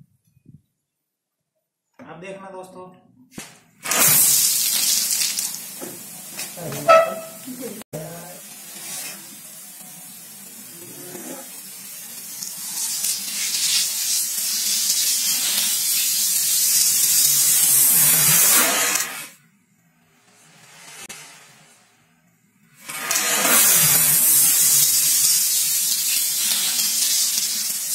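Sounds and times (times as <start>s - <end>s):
pressurized gas hissing: 3.8s - 19.4s, 20.3s - 27.9s.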